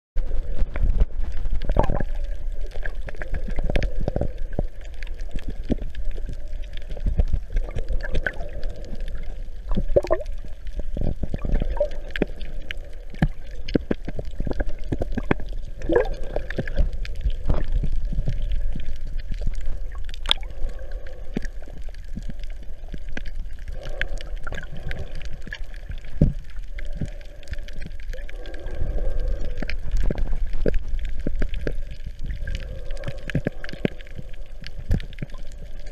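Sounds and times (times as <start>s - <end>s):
low underwater rumble: 0.2s - 35.9s
water gurgling and sloshing: 0.2s - 35.9s.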